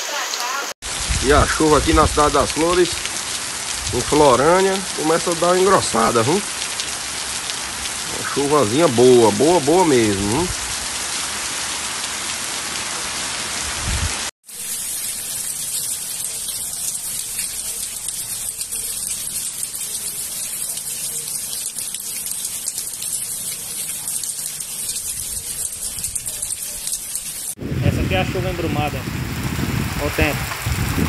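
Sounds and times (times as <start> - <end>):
heavy rain on cobblestones: 0.0 - 31.0.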